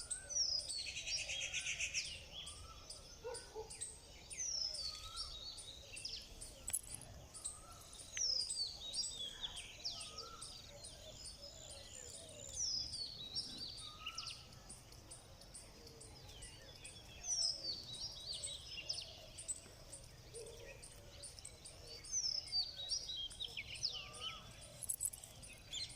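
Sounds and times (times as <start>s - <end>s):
insect ticking: 4.7s - 25.9s.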